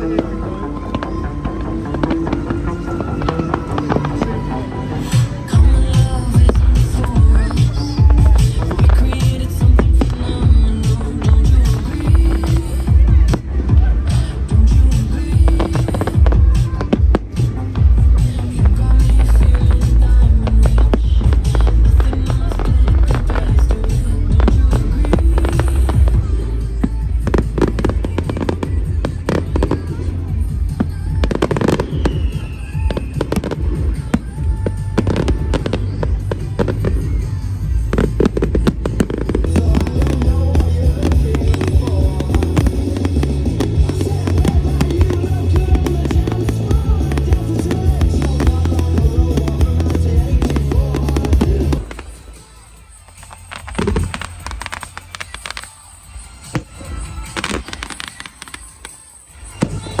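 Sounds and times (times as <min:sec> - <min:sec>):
fireworks bangs and crackles: 0:00.0 - 1:00.0
music playing: 0:00.0 - 1:00.0
low rumble: 0:00.2 - 0:31.4, 0:34.5 - 0:51.9.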